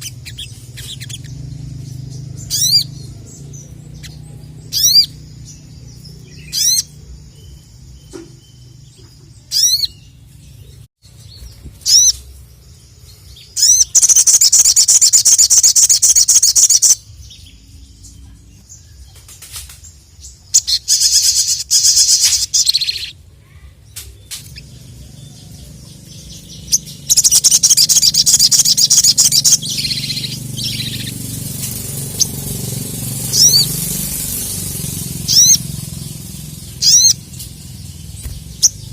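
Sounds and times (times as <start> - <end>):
songbird rapid twittering: 0.0 - 23.2, 23.8 - 38.9
songbird high chirps: 0.0 - 38.9.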